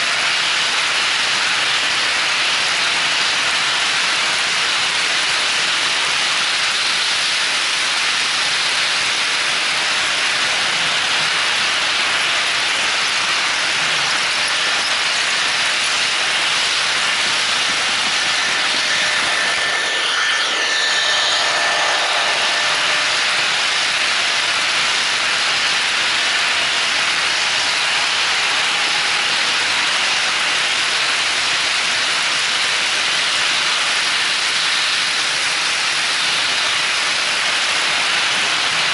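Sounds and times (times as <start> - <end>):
model train wheels rolling on rails: 0.0 - 38.9
faint steady whine: 6.5 - 38.9.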